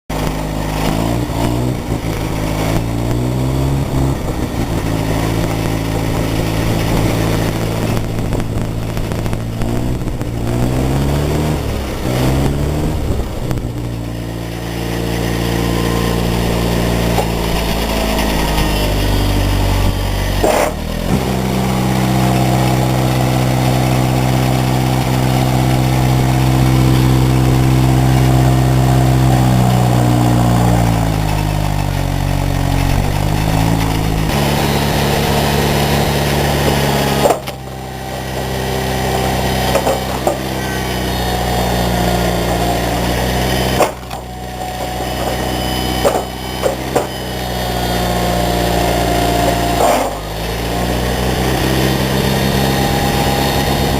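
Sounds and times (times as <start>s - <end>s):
small engine running: 0.1s - 53.9s.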